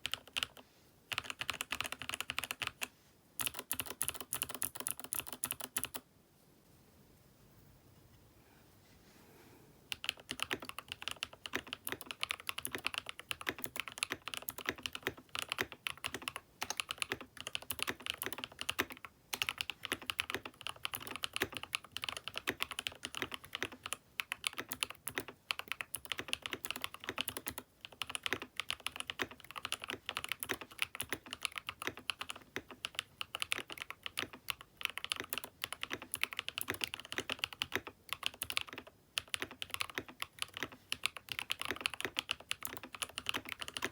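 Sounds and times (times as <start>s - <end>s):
typing on mechanical keyboard: 0.0s - 6.0s, 9.9s - 43.9s.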